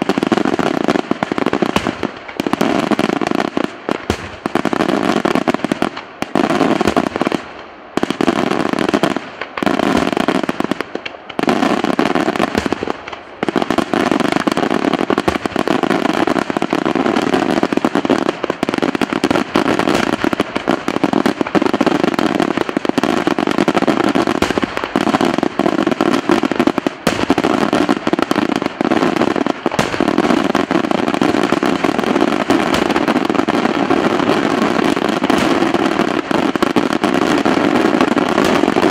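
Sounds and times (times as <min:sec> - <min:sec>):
firecracker bangs: 0:00.0 - 0:38.9.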